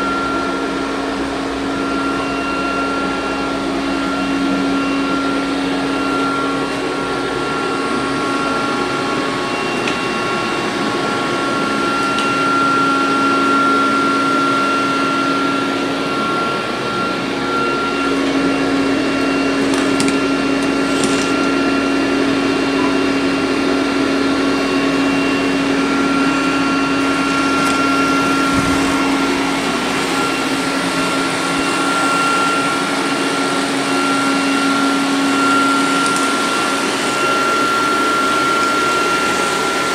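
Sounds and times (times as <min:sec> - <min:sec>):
robot vacuum motor hum: 0:00.0 - 0:39.9.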